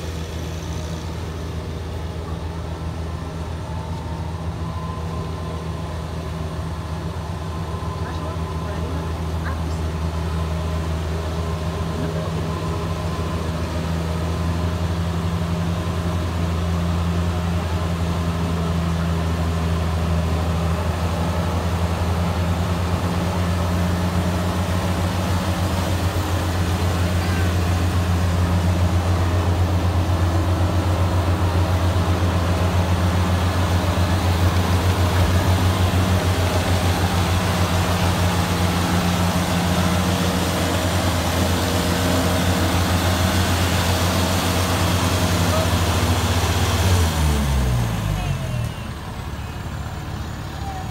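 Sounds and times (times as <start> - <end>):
combine harvester engine drone: 0.0 - 50.9.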